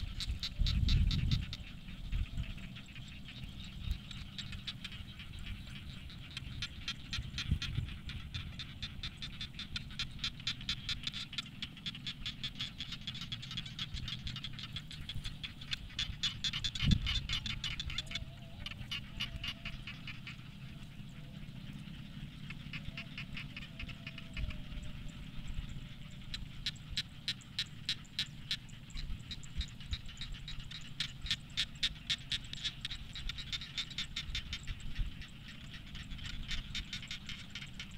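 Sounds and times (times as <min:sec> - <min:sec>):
frogs calling: 0:00.0 - 0:37.9.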